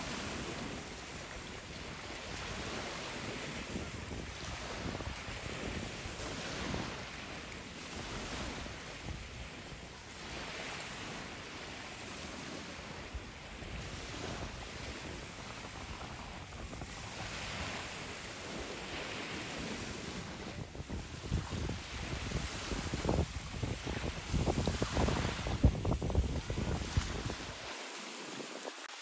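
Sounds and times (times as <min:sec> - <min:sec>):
waves washing on shingle: 0:00.0 - 0:29.0.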